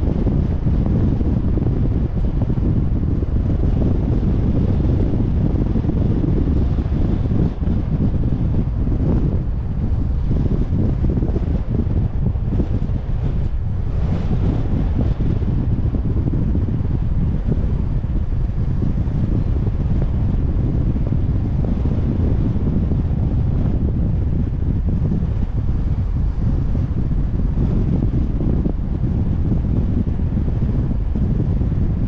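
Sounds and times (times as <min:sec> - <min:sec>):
car road noise: 0:00.0 - 0:32.0
wind buffeting microphone: 0:00.0 - 0:32.0.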